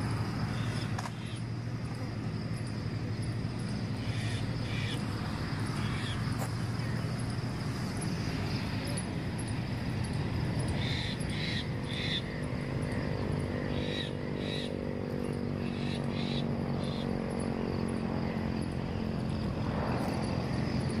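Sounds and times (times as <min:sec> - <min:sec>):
insect chirring: 0:00.0 - 0:21.0.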